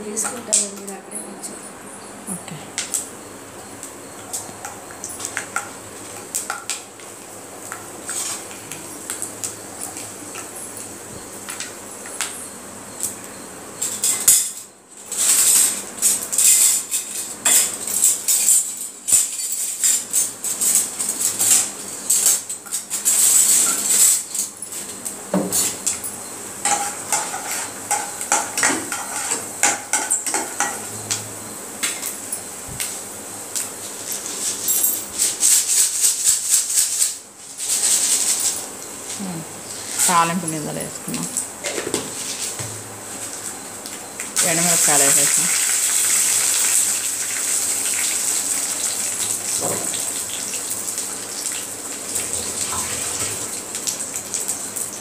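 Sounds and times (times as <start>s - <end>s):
crackling with bright hiss: 0.0s - 55.0s
peanuts frying in hot oil: 2.7s - 55.0s.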